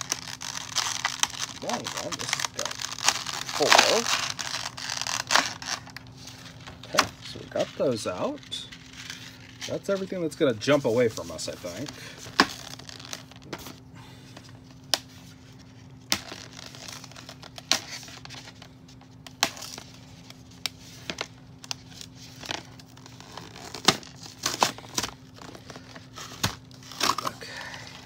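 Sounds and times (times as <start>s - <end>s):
plastic packaging crinkling: 0.0s - 13.8s, 14.4s - 28.0s.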